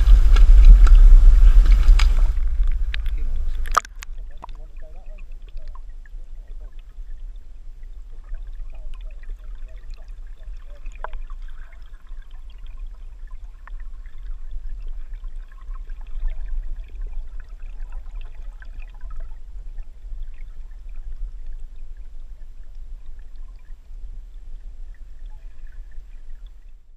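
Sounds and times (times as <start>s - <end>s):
clicks and crackles of moving water: 0.0s - 26.8s
low underwater rumble: 0.0s - 26.9s.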